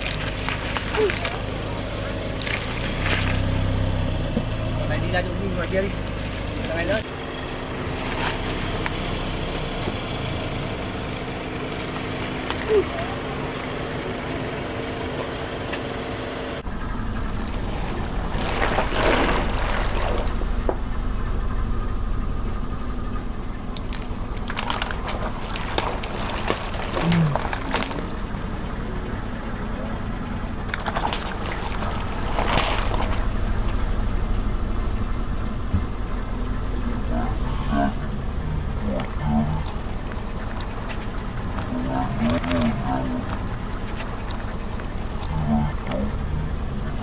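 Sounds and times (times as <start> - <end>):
car engine rumbling: 0.0 - 47.0.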